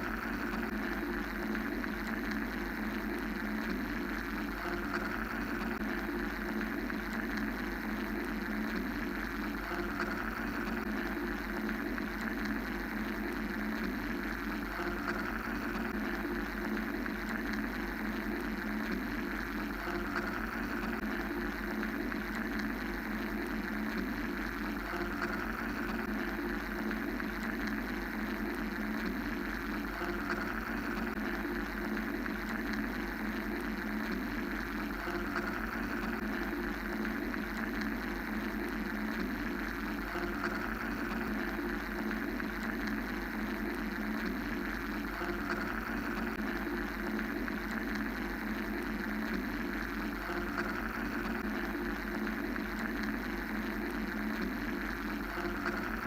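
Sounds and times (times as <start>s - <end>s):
mechanical white noise: 0.0s - 56.0s.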